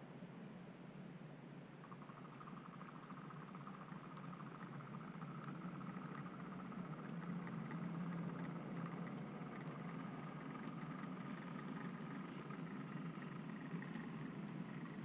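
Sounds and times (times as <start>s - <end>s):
faint clicks of train on track: 1.8s - 15.0s
model train mechanical hum: 1.8s - 15.0s.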